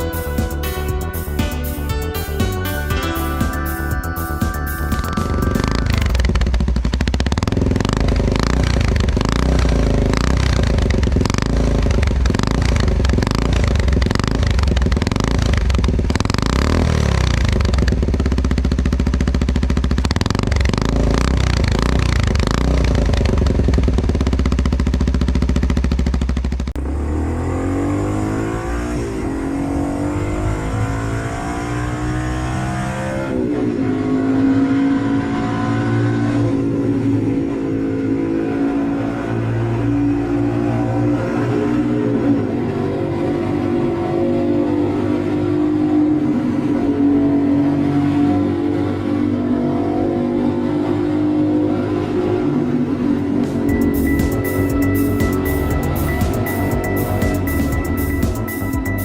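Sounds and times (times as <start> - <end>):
motorcycle engine revving: 0.0 - 2.2, 3.1 - 59.0.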